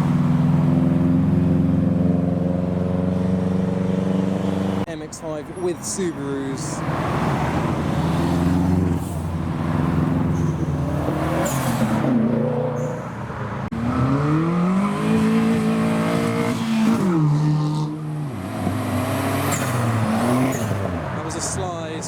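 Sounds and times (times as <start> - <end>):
car engines accelerating: 0.0 - 22.0.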